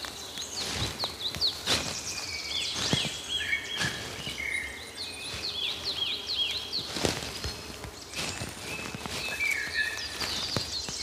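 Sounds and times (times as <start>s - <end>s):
birds chirping: 0.0s - 11.0s
steady outdoor hiss: 0.0s - 11.0s.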